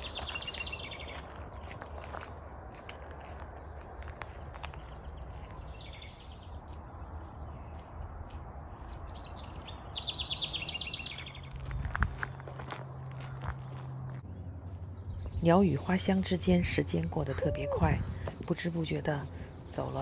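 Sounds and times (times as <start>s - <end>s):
songbirds singing: 0.0s - 2.3s, 3.3s - 20.0s.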